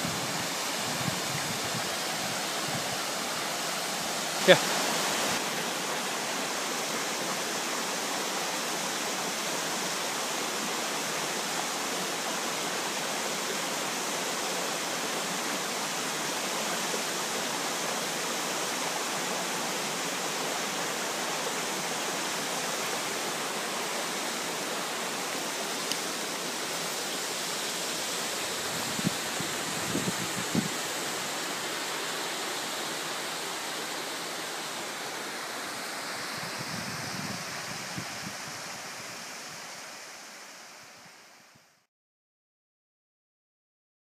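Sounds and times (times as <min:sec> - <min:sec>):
mountain stream rushing over rocks: 0:00.0 - 0:41.6.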